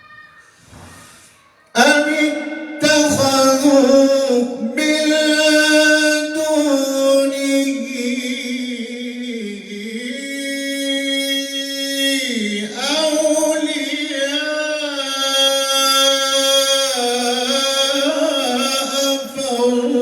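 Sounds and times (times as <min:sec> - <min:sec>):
man chanting melodic recitation: 0:01.8 - 0:20.0.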